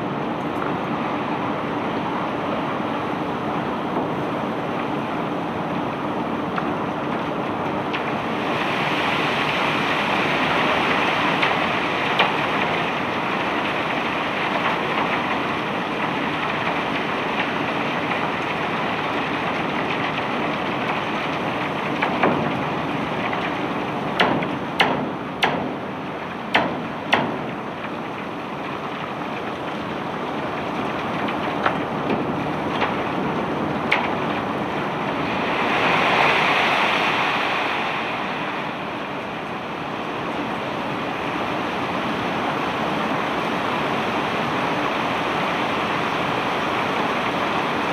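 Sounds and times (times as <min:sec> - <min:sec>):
steady rushing noise: 0:00.0 - 0:47.9.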